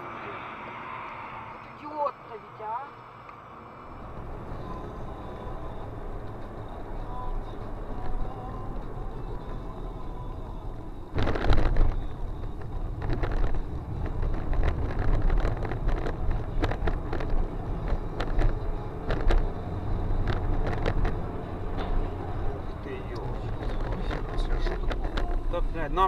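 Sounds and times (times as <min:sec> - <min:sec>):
low road rumble: 0:00.0 - 0:26.0.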